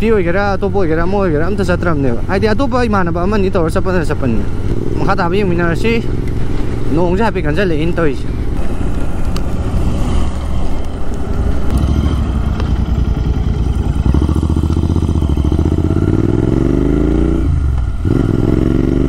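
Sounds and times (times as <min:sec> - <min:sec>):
motorcycle engine accelerating: 0:03.2 - 0:19.0.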